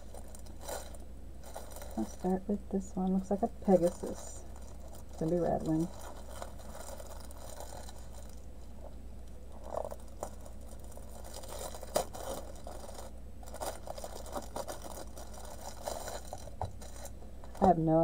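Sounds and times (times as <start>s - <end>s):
plastic packaging crinkling: 0.0s - 2.4s, 3.2s - 18.0s
small beads rattling in bags: 0.0s - 2.4s, 3.6s - 8.5s, 9.5s - 17.2s.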